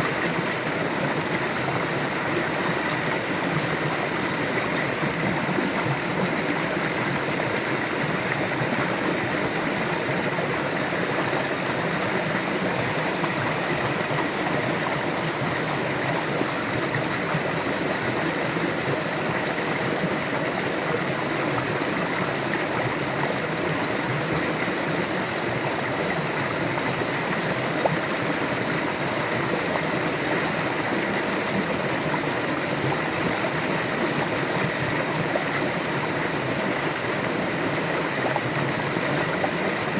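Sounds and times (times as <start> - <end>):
river water rushing and burbling: 0.0 - 39.9.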